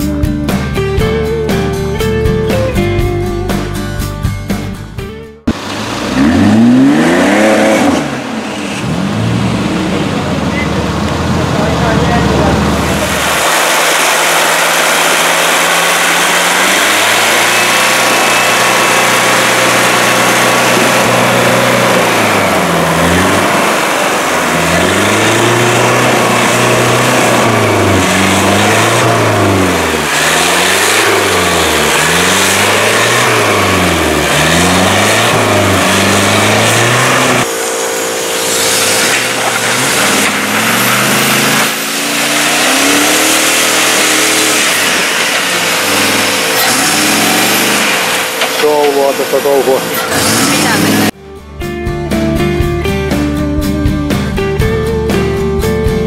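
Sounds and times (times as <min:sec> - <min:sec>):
car engine revving: 0:00.0 - 0:55.6.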